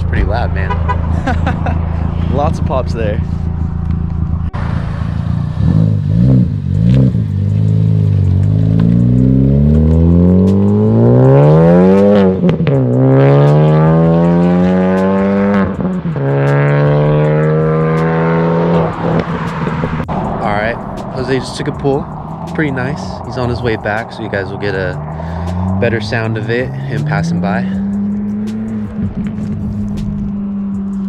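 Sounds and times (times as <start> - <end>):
car engine revving and accelerating: 0.0 - 31.0.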